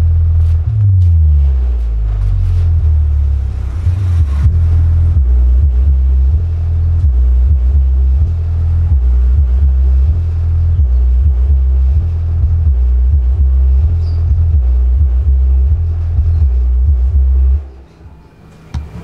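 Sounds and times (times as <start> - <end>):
deep bassline from subwoofer: 0.0 - 17.8.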